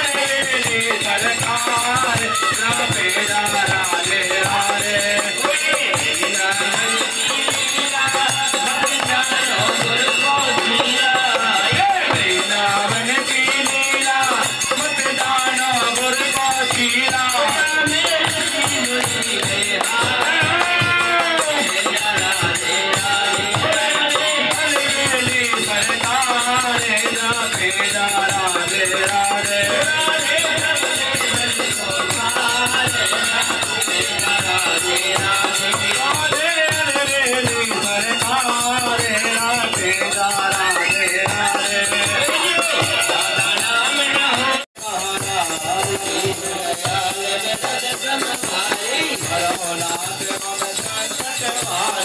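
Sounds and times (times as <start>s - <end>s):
group singing devotional song: 0.0s - 52.0s
jingling hand percussion: 0.0s - 52.0s.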